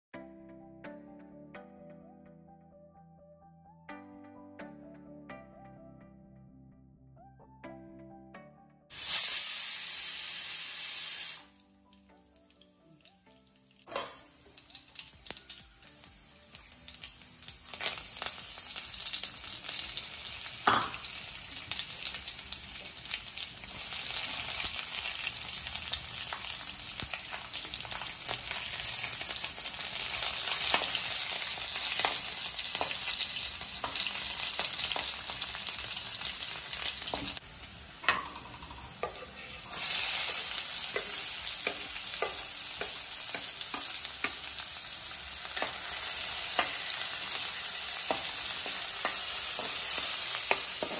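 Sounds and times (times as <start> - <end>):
hot oil sizzling: 8.9 - 50.9.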